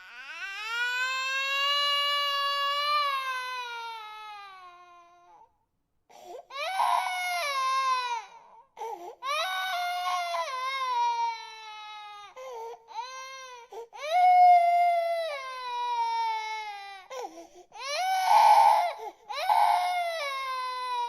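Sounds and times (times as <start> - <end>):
infant crying: 0.0 - 5.5, 6.1 - 21.0.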